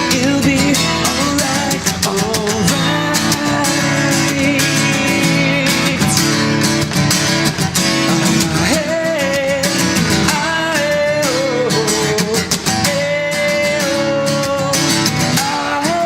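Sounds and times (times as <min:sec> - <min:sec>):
acoustic guitars strumming: 0:00.0 - 0:16.0.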